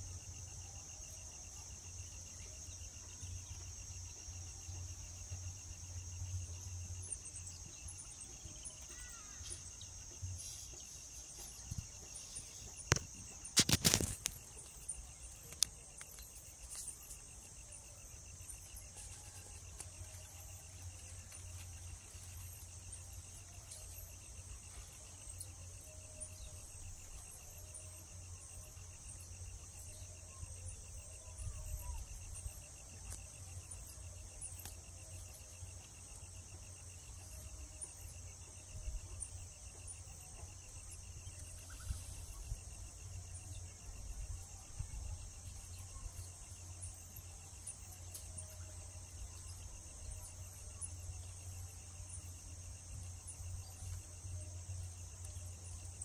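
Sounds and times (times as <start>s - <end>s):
cricket-like trill: 0.0s - 56.0s
insects buzzing: 0.0s - 56.0s.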